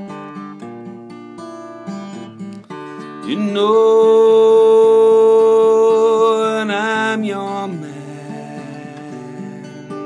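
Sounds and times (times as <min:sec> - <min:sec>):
acoustic guitar picking notes: 0:00.0 - 0:10.0
guitar strum: 0:00.0 - 0:10.0.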